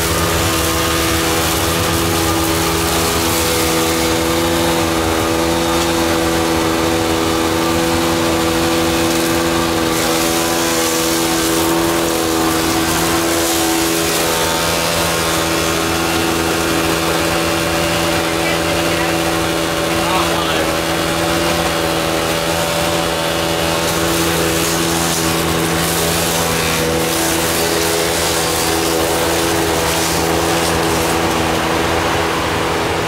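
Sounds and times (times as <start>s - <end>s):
machine motor hum: 0.0s - 33.0s.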